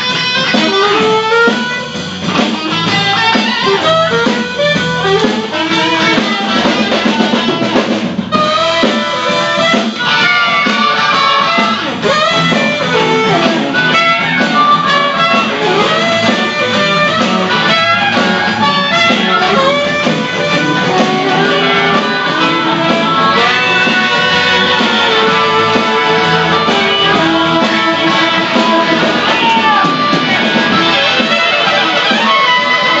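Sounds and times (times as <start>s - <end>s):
electric guitar: 0.0s - 33.0s
harmonica: 0.0s - 33.0s
saxophone: 0.0s - 33.0s
trumpet: 0.0s - 33.0s.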